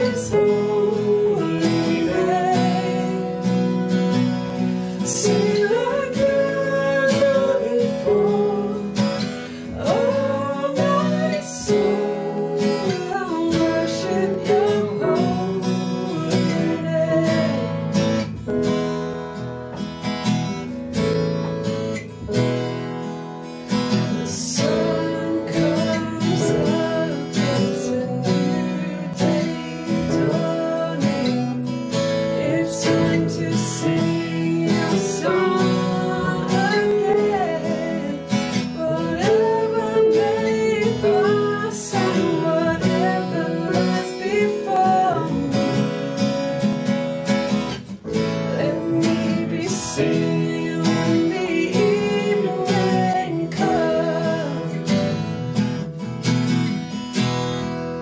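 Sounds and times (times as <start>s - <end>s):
woman singing: 0.0s - 4.0s, 4.9s - 18.3s, 24.1s - 46.4s, 48.2s - 55.4s
piano: 0.0s - 58.0s
strummed acoustic guitar: 0.0s - 58.0s.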